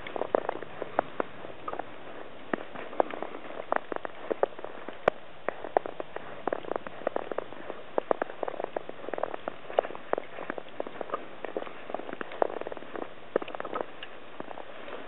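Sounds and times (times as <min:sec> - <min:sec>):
soft crackles and ticks: 0:00.0 - 0:15.0.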